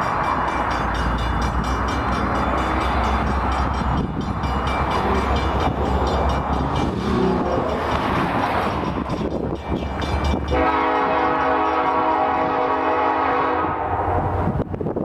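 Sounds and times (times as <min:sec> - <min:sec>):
locomotive engine rumble: 0:00.0 - 0:13.3.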